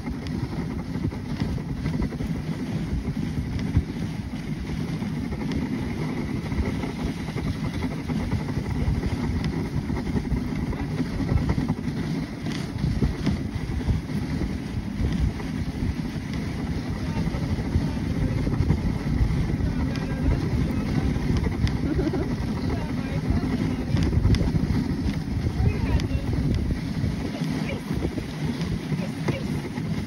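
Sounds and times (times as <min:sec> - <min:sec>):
sled runners scraping snow: 0:00.0 - 0:30.0
wind buffeting microphone: 0:00.0 - 0:30.0.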